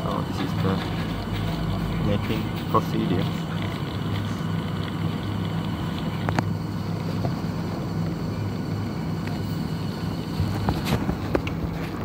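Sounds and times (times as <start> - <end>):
coffee machine humming: 0.0 - 12.0.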